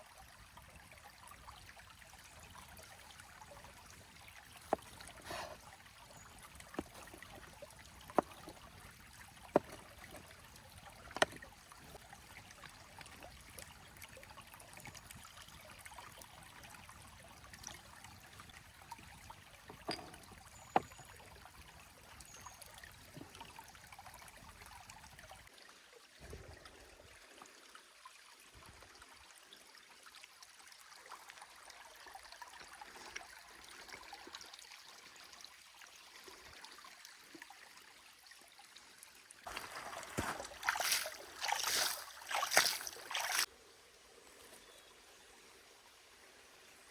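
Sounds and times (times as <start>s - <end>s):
stream running: 0.0s - 46.9s.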